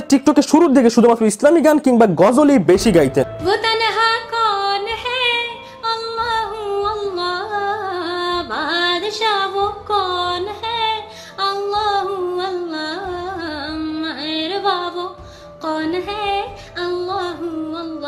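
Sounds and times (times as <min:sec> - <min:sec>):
woman singing: 0:03.4 - 0:18.0.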